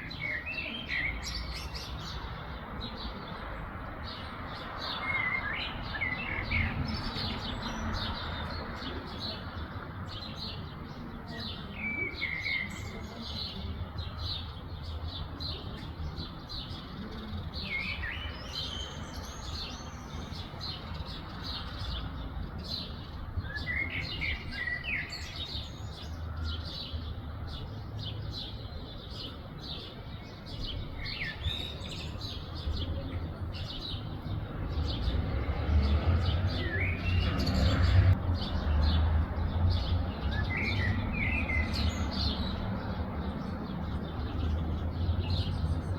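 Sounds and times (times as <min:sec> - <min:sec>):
songbirds chirping: 0:00.0 - 0:45.9.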